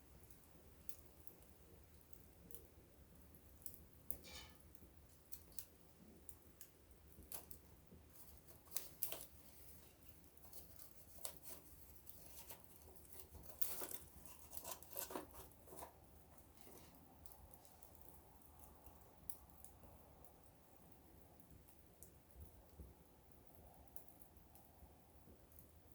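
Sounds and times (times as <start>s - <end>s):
small wood fire crackling: 0.0s - 25.9s.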